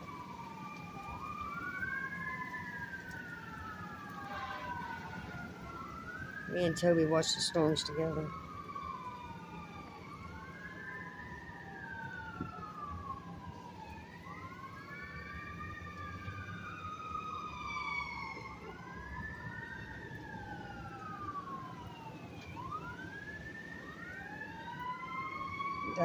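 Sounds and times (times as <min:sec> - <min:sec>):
sirens wailing: 0:00.0 - 0:26.0.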